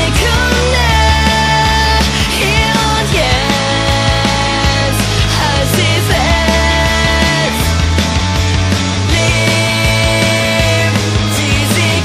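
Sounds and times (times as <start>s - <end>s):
rock song with distorted guitars: 0.0s - 12.0s
steady drum beat: 0.0s - 12.0s.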